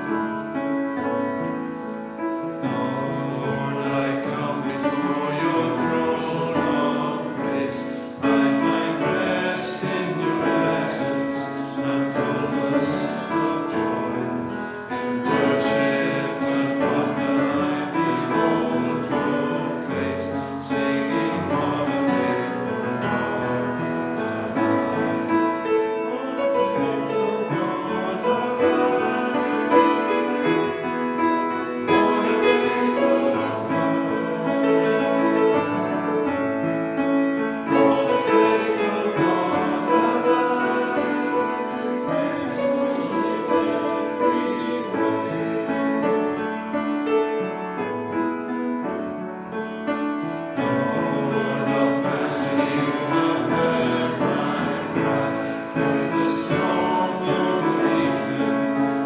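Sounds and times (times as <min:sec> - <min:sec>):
congregation singing a hymn: 0:00.0 - 0:59.0
piano: 0:00.0 - 0:59.0.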